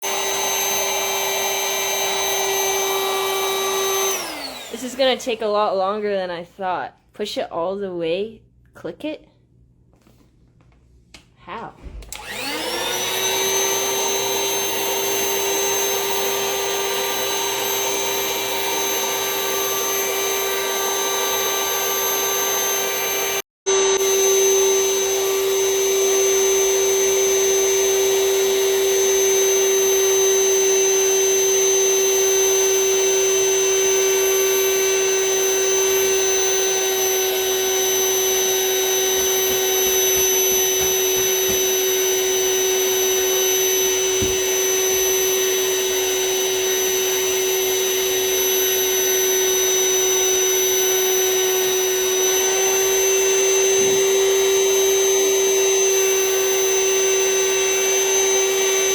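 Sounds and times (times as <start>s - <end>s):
vacuum cleaner whining: 0.0s - 6.2s, 11.8s - 58.9s.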